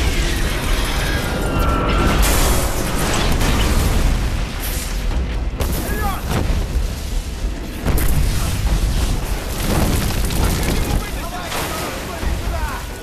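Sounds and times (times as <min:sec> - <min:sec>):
debris crashing: 0:00.0 - 0:13.0
explosions booming: 0:01.8 - 0:12.9.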